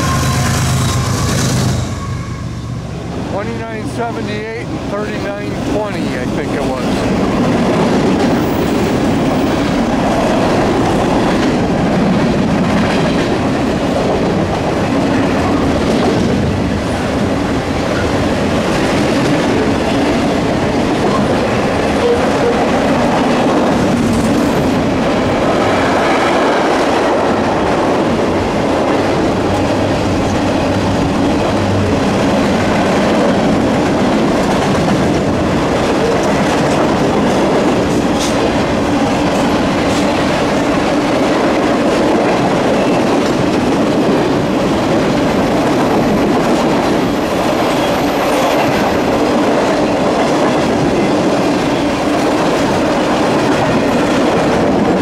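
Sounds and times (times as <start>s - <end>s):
freight train wheels rumbling: 0.0s - 55.0s
wheels clickety-clack: 5.5s - 55.0s.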